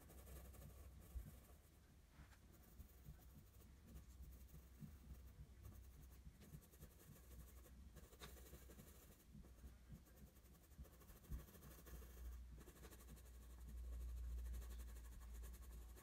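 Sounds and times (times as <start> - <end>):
pencil scratching on paper: 0.0 - 16.0.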